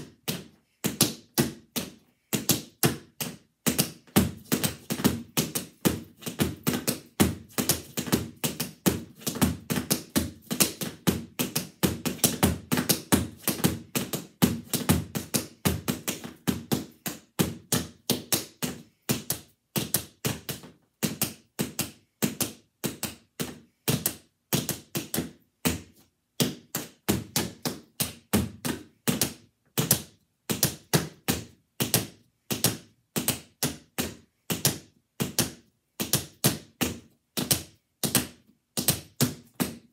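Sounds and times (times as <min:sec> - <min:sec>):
tap shoes on a mat: 0:00.0 - 0:39.9.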